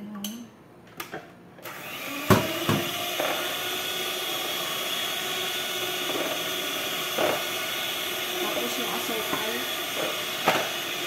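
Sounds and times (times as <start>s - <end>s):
electric mixer whisking in glass bowl: 1.6s - 11.0s.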